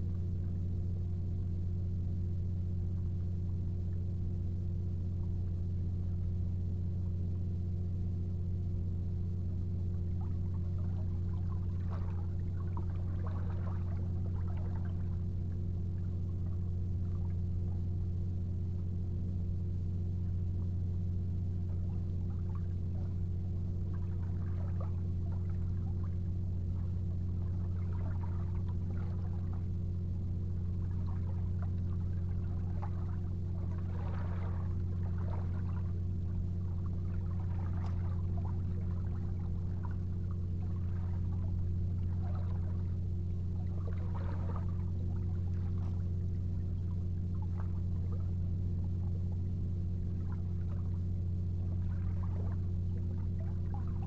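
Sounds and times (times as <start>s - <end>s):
faint irregular soft noises: 0.0s - 54.0s
steady low hum: 0.0s - 54.0s.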